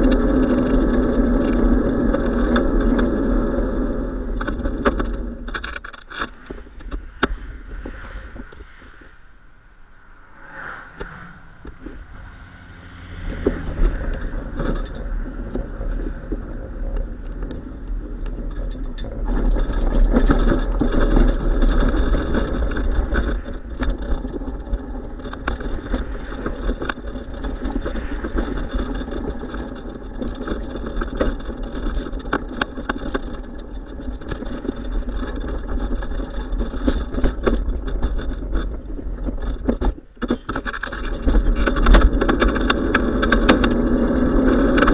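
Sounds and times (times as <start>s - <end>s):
bicycle rattles: 0.0s - 44.9s
bicycle riding rumble: 0.0s - 44.9s.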